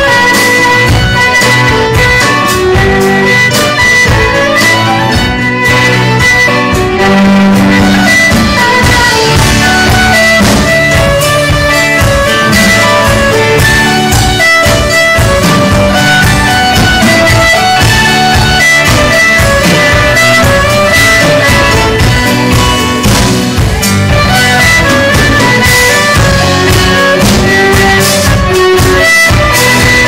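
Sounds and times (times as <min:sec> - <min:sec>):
drum kit beat: 0:00.0 - 0:30.0
fiddle melody: 0:00.0 - 0:30.0
strummed guitar: 0:00.0 - 0:30.0.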